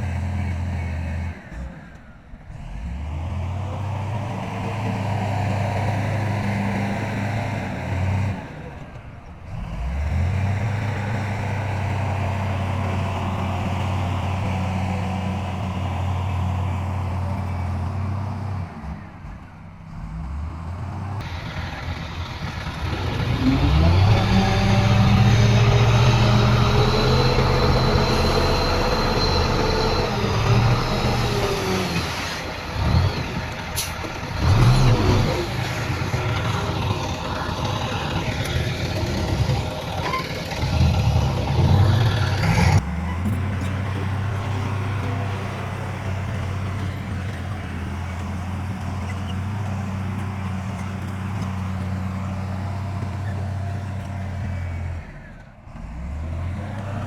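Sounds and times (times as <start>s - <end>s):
diesel engines running: 0.0s - 57.0s
engine revving up: 0.0s - 57.0s.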